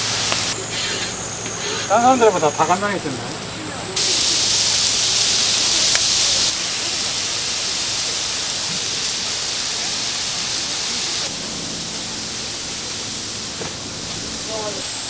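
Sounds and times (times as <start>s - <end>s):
skewers sizzling on griddle: 0.0s - 15.0s.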